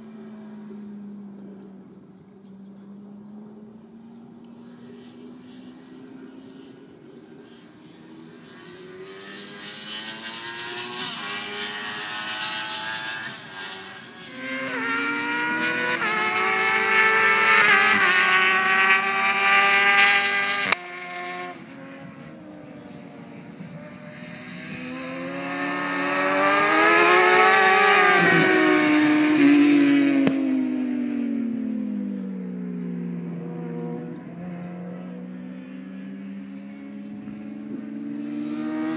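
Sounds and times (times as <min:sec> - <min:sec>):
motorcycle engines revving: 0:00.0 - 0:38.9
motorcycles passing by: 0:00.0 - 0:38.9.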